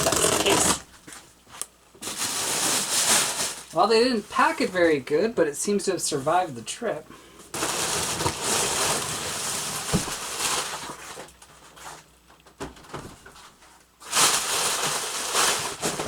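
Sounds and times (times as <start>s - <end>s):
plastic air pillows crinkling: 0.0s - 12.1s, 12.8s - 16.0s.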